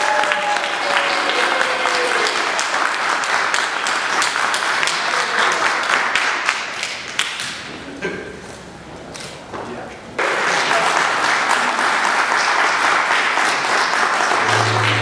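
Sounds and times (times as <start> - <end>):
crowd applauding: 0.0 - 7.4, 10.2 - 15.0.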